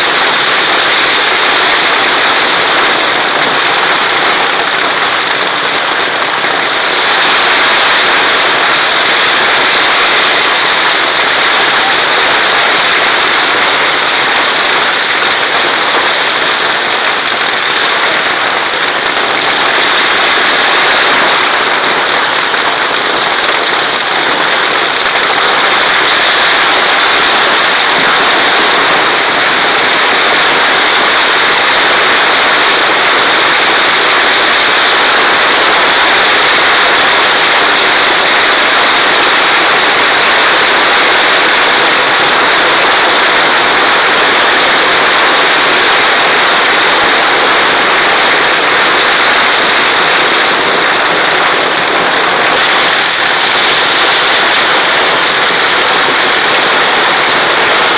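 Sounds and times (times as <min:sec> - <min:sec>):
fireworks crackling and hissing: 0:00.0 - 0:57.9.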